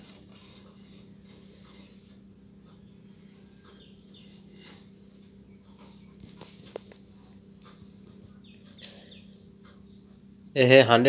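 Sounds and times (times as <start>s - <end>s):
steady low hum: 0.0s - 11.0s
small birds chirping: 1.4s - 10.4s.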